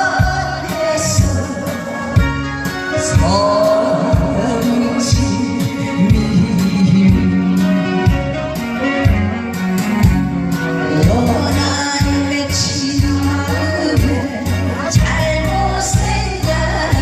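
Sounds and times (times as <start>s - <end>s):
person singing: 0.0s - 8.1s, 10.8s - 17.0s
upbeat song over a pa system: 0.0s - 17.0s
steady drum beat: 0.1s - 17.0s.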